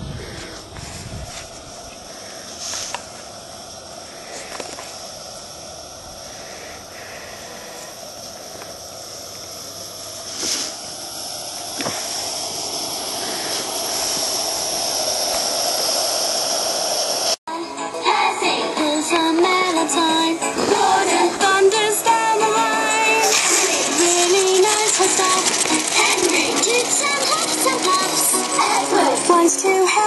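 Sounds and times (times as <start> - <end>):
wheels clicking over rail joints: 0.0 - 17.3, 18.8 - 30.0
model train wheels and motor hum: 0.0 - 17.4, 18.4 - 30.0.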